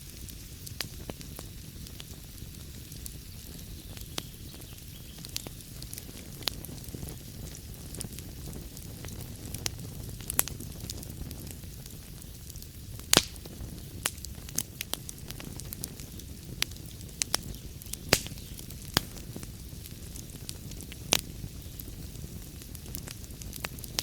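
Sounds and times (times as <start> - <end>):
fire crackling in fireplace: 0.0 - 24.0.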